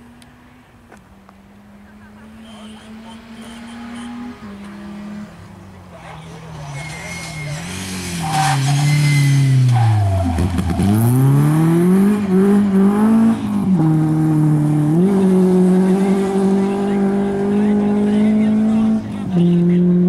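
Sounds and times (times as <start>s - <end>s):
rally car engine revving: 1.6s - 20.0s.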